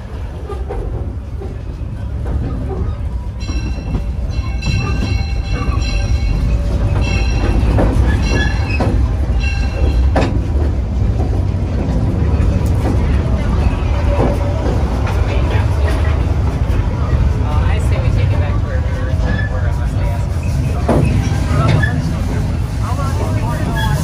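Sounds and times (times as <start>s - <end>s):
steam train low rumble: 0.0s - 24.0s.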